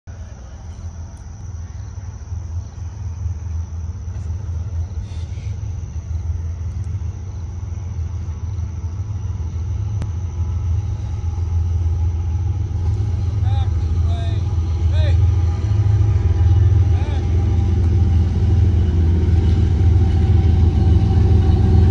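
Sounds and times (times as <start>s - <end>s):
diesel locomotive rumble: 0.0s - 21.9s.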